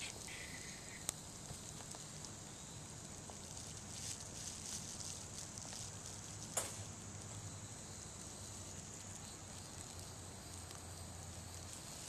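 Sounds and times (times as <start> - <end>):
faint outdoor background noise: 0.0 - 12.0.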